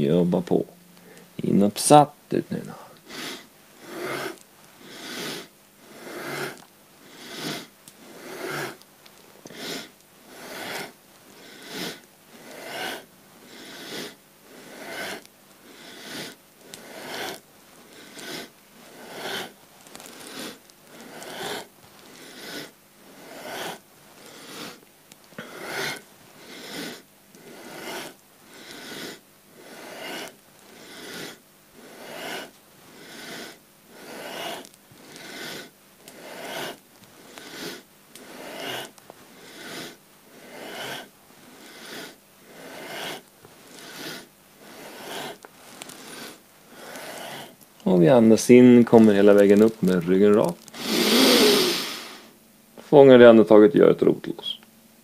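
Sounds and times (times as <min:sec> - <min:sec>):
person breathing forcefully through nose: 0:02.8 - 0:08.8, 0:09.5 - 0:24.8, 0:25.4 - 0:47.6, 0:48.6 - 0:52.4.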